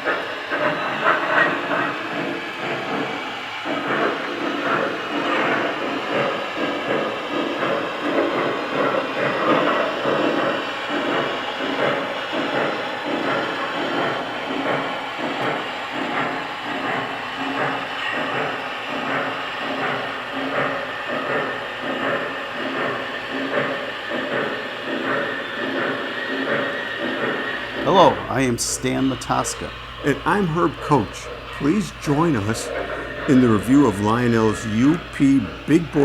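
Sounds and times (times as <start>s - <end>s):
model train chuffing: 0.0s - 36.0s
steam hiss: 0.0s - 36.0s.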